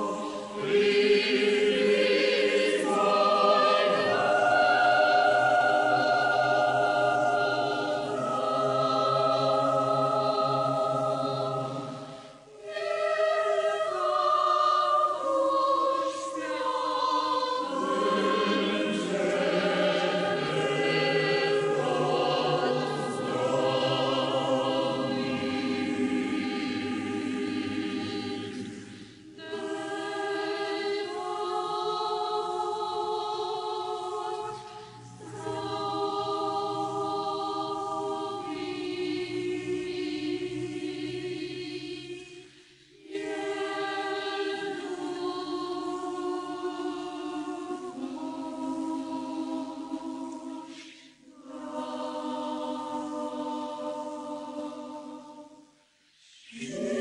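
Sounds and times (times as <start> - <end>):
choir singing a slow hymn: 0.0 - 57.0.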